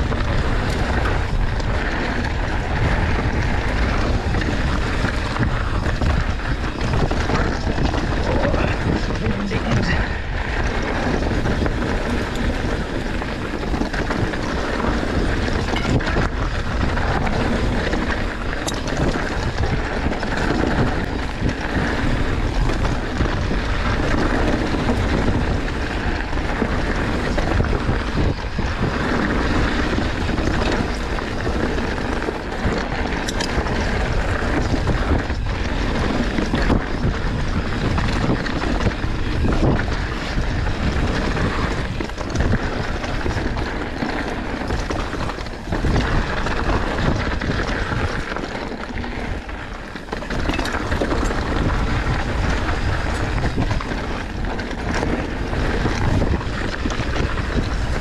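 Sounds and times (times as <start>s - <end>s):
bike rattling: 0.0s - 58.0s
tyres rolling on dirt: 0.0s - 58.0s
wind over microphone: 0.0s - 58.0s.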